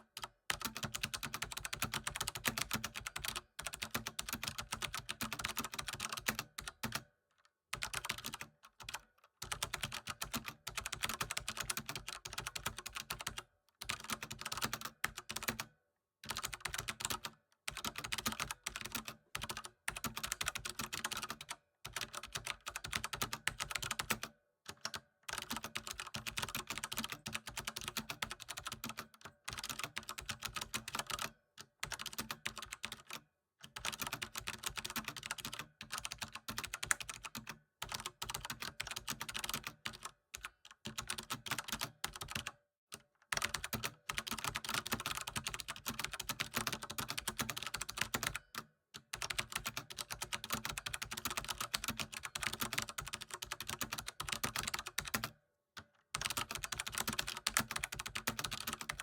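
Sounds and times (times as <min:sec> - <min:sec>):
computer keyboard typing: 0:00.2 - 0:07.0, 0:07.8 - 0:55.4, 0:56.1 - 0:59.0.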